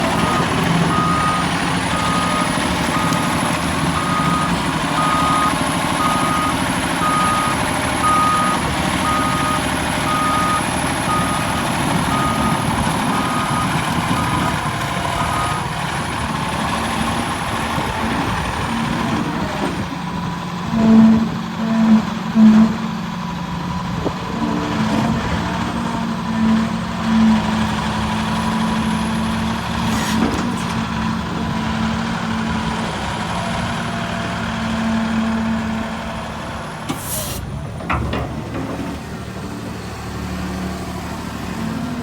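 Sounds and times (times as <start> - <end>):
excavator engine running: 0.0 - 42.0.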